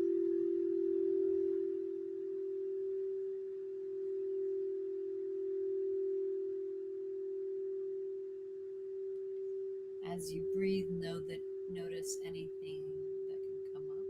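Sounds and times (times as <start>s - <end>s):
singing bowl tone: 0.0s - 14.0s.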